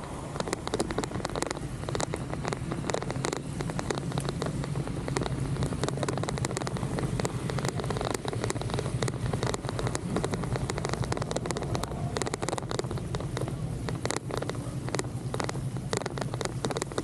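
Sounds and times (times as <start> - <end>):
raindrops ticking: 0.0 - 17.0
steady low hum: 0.0 - 17.0.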